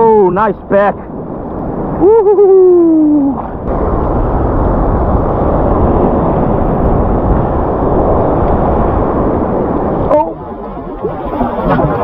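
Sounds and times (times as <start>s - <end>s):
muffled surf waves sloshing: 0.1s - 12.0s.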